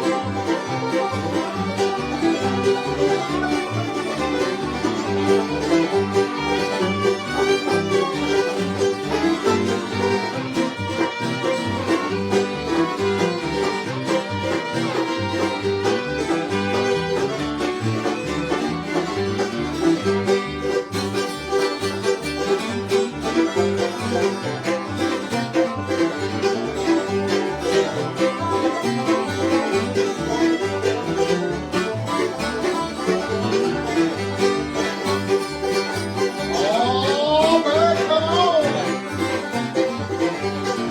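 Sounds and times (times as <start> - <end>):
banjo picking: 0.0 - 40.9
fiddle: 0.0 - 40.9
guitar picking: 0.0 - 40.9.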